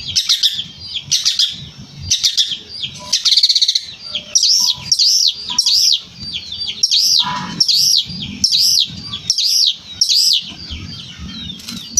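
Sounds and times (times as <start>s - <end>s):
shrike singing loud arching notes: 0.0s - 11.6s.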